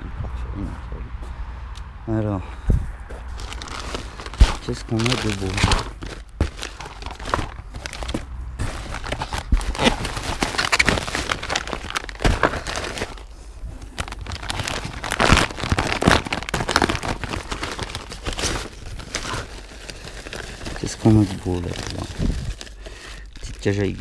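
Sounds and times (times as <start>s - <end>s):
packing and cardboard crinkling: 3.1s - 24.0s.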